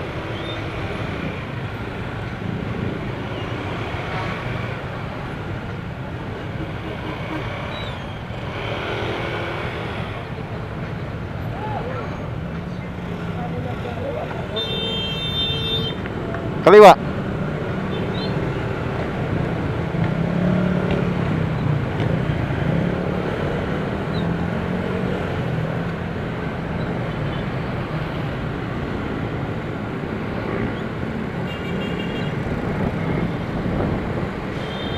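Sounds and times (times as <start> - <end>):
road noise: 0.0 - 34.9.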